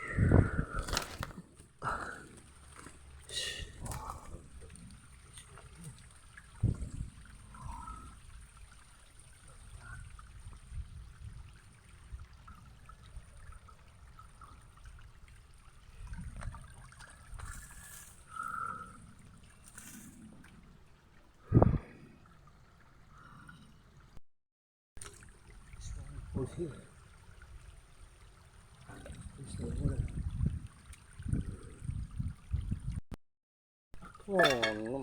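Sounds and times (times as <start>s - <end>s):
water trickling from waterfall: 0.8s - 23.4s, 25.0s - 33.0s, 34.0s - 35.0s.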